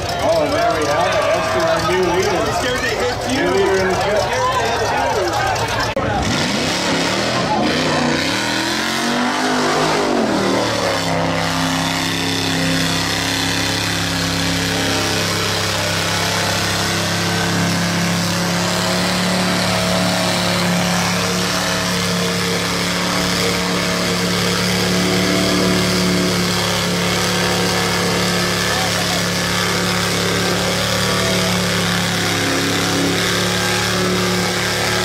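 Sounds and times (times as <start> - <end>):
tyres churning through mud: 0.0 - 35.0
engine revving: 5.4 - 35.0.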